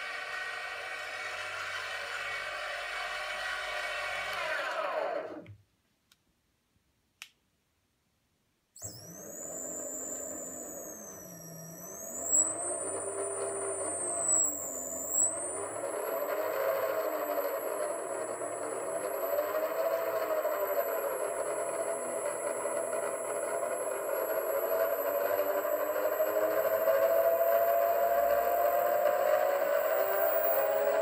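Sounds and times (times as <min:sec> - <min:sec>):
electric motor whine: 0:00.0 - 0:05.5, 0:08.8 - 0:31.0.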